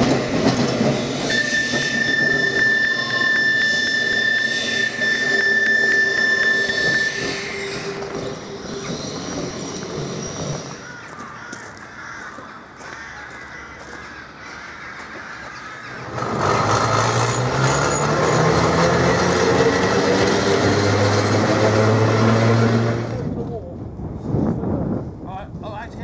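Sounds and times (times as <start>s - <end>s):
tram wheels squealing on curve: 0.0s - 23.3s
tram motors humming: 0.0s - 23.4s.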